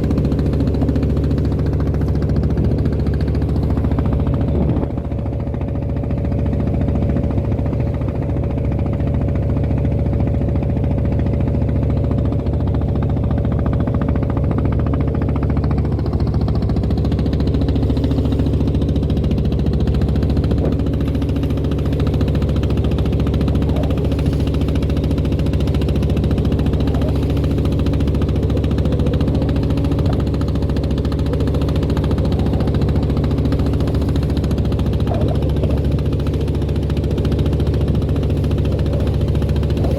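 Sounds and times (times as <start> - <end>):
boat diesel engine running: 0.0 - 39.9.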